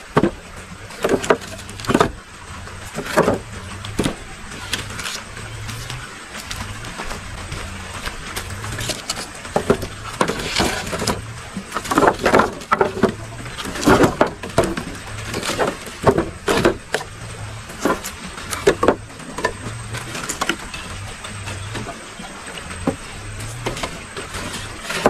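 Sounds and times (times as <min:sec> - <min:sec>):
faint low hum: 0:00.0 - 0:25.0
wooden sticks knocking: 0:00.0 - 0:25.0.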